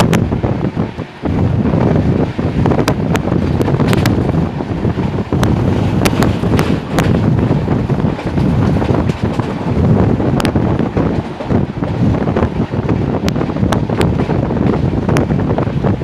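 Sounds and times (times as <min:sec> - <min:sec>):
train rumbling on rails: 0:00.0 - 0:16.0
wind buffeting microphone: 0:00.0 - 0:16.0.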